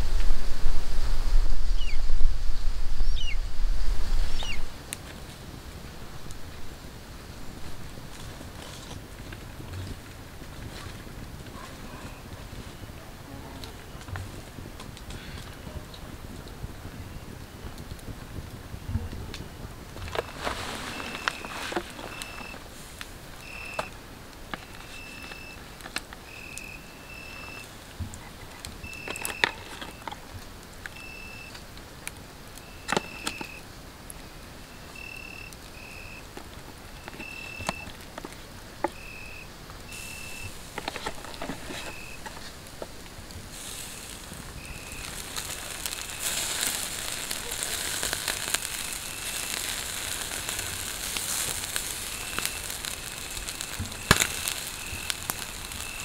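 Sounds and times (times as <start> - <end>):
campfire embers crackling: 0.0 - 56.0
chicken sizzling: 0.0 - 56.0.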